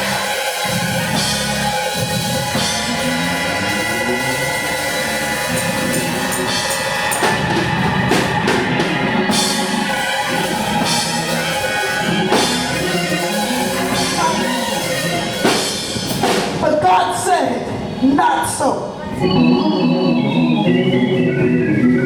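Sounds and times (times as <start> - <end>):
drum kit beating: 0.0 - 18.0
organ chords: 0.0 - 18.2, 18.8 - 22.0.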